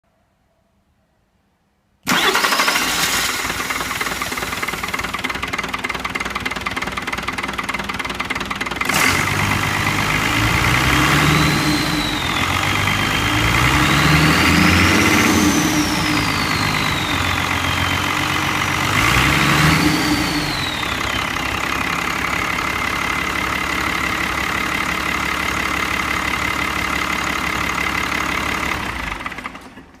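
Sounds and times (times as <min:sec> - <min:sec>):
diesel engine revving and idling: 0:02.1 - 0:29.9.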